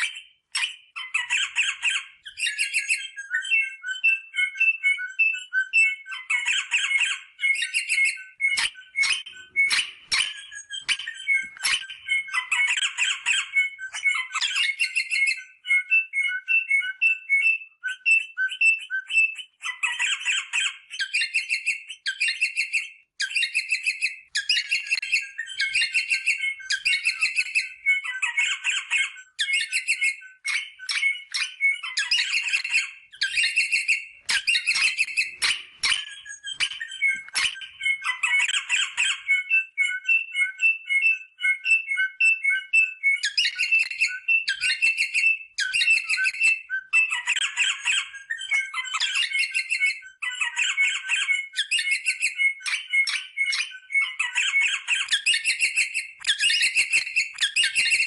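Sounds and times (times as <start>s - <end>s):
parrot piping notes: 6.2s - 17.0s, 19.6s - 58.0s.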